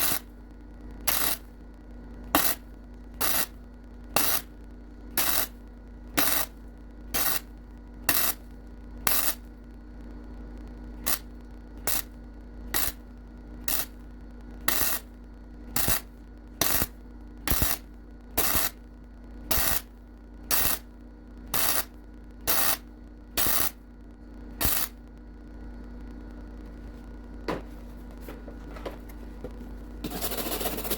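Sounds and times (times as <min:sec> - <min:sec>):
welder crackling bursts: 0:00.0 - 0:23.8, 0:24.5 - 0:25.6
steady hum: 0:00.0 - 0:30.9.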